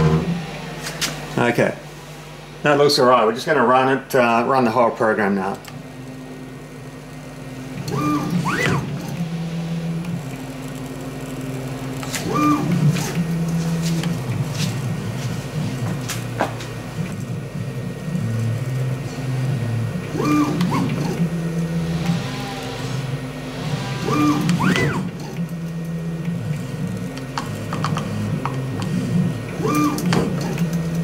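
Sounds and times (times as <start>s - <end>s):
steady low hum: 0.0s - 31.0s
stepper motors whining: 0.0s - 31.0s.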